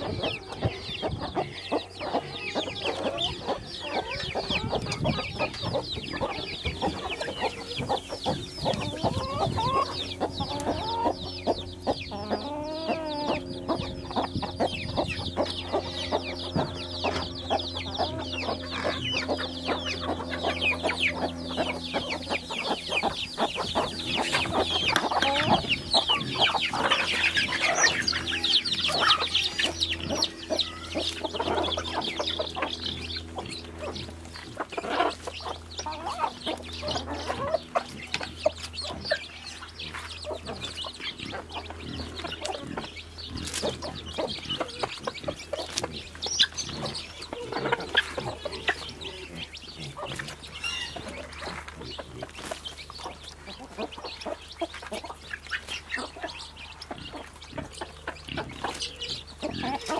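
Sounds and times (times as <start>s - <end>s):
chicks peeping: 0.0s - 59.9s
hens clucking: 0.0s - 59.9s.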